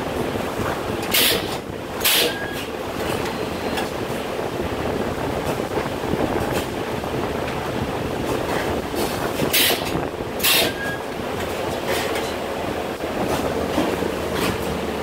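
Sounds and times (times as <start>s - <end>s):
factory machinery din: 0.0s - 15.0s.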